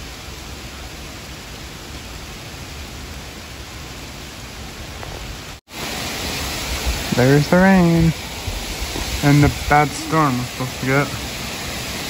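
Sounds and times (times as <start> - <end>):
steady rain on pavement: 0.0 - 12.0.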